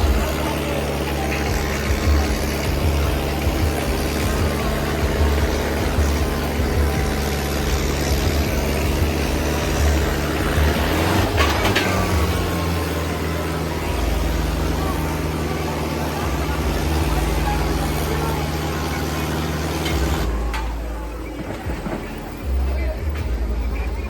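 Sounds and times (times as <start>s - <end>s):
tractor diesel engines running: 0.0s - 24.0s.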